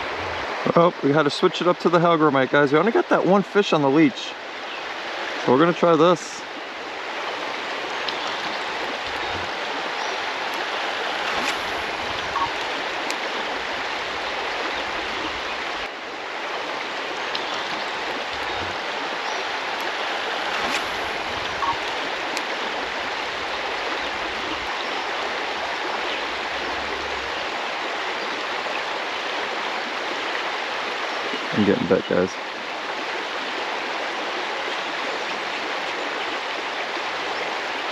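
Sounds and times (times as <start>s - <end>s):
creek water flowing: 0.0s - 37.9s.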